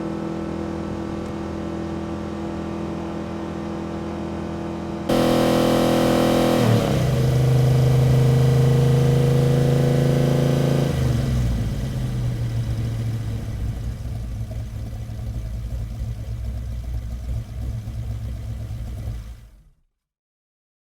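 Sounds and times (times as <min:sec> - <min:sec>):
car engine revving and idling: 0:00.0 - 0:19.9.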